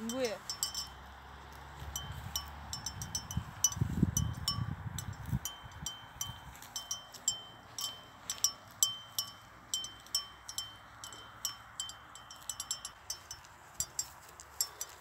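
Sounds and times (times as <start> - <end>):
metal chimes tinkling: 0.0 - 1.1, 1.9 - 15.0.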